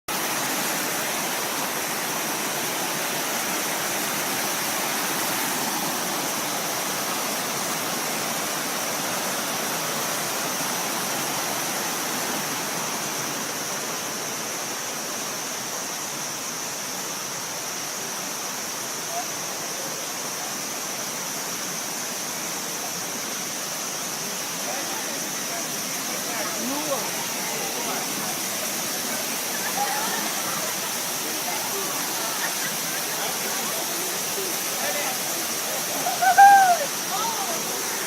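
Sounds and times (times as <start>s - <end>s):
waterfall rushing: 0.1s - 38.0s.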